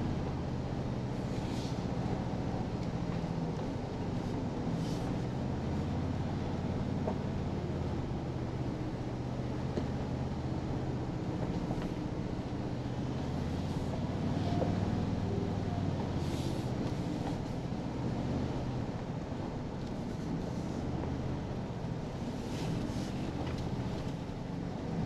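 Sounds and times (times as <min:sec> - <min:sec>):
engine low hum: 0:00.0 - 0:25.0.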